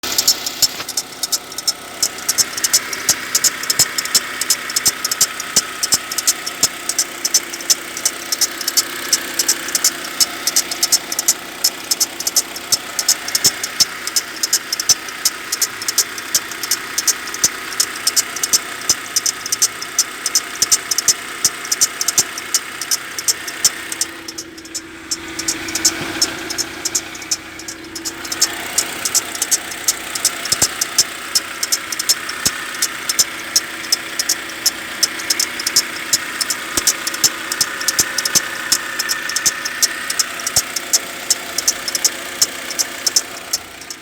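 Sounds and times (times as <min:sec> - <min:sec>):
engine idling: 0:00.0 - 0:44.0
fast even ticking: 0:00.0 - 0:44.0.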